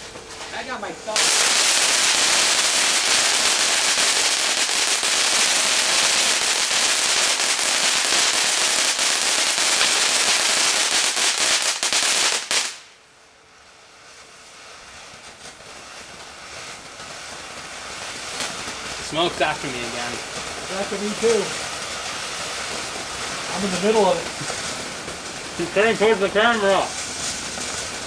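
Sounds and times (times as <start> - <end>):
firework crackling: 0.0 - 28.0.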